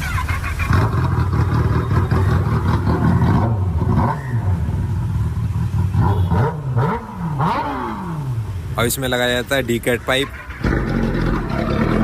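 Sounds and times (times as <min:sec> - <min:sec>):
motorcycle engine revving: 0:00.0 - 0:08.6, 0:10.2 - 0:12.0.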